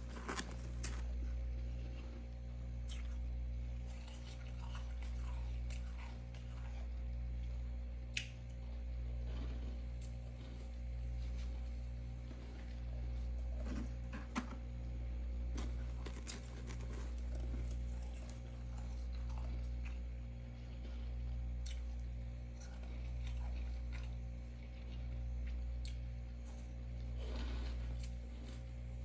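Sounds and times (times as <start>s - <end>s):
freezer frost crackling and crunching: 0.0s - 29.0s
low pulsing hum: 0.0s - 29.0s.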